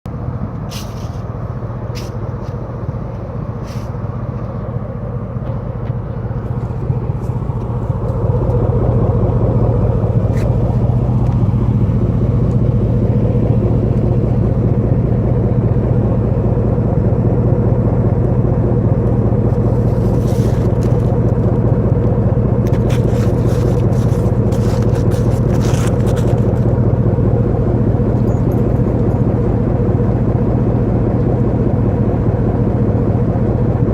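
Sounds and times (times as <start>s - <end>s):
truck exhaust droning: 0.1s - 33.9s.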